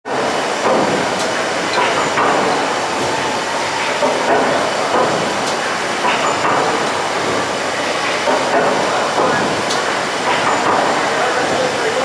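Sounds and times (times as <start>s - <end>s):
steam engine clattering: 0.1s - 12.0s.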